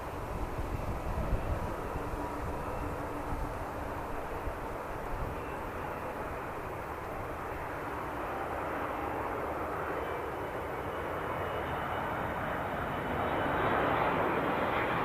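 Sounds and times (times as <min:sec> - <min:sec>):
airliner engines rushing: 0:00.0 - 0:15.0.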